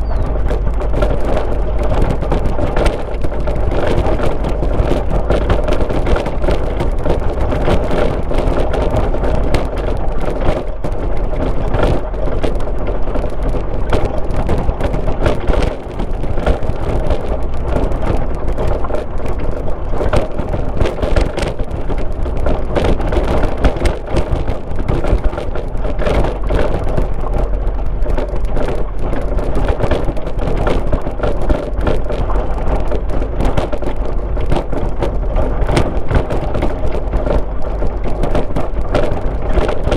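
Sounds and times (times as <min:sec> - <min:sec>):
car engine and tyre noise: 0:00.0 - 0:39.9
dense crackling: 0:00.0 - 0:39.9.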